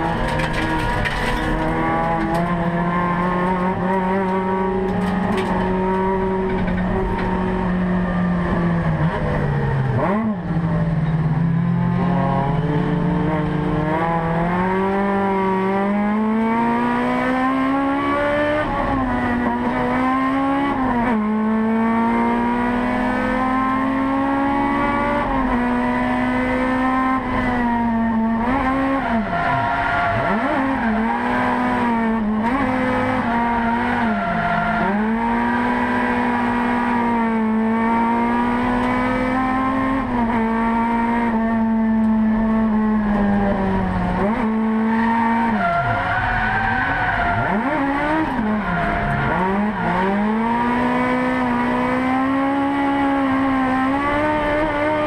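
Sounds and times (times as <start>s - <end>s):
car engine at high revs: 0.0s - 55.0s.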